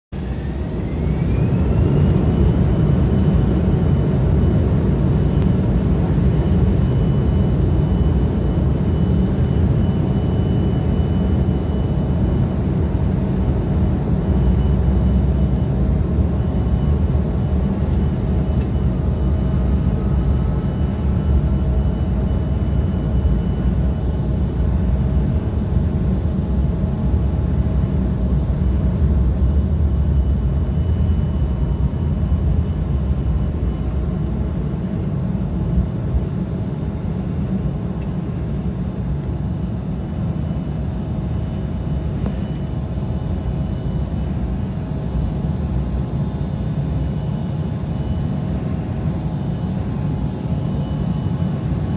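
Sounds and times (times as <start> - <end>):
faint high whine: 0.2 - 51.9
jet engines rumbling: 0.2 - 51.9.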